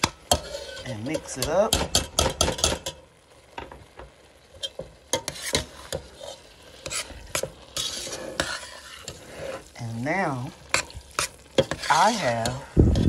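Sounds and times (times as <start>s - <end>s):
metal spoon scraping a pot: 0.0s - 3.0s, 4.5s - 13.0s.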